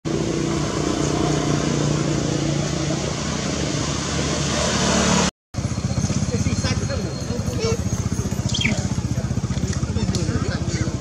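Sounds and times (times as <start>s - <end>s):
vehicle engine running: 0.1s - 11.0s.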